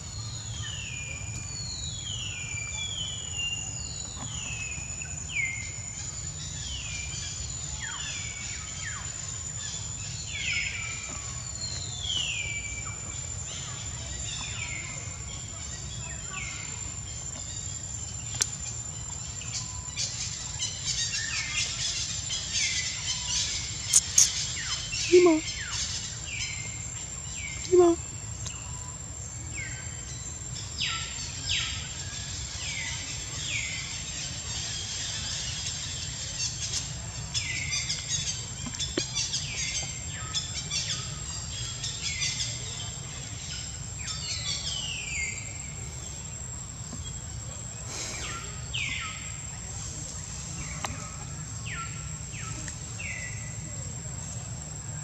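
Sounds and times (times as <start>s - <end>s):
low outdoor hum: 0.0s - 55.0s.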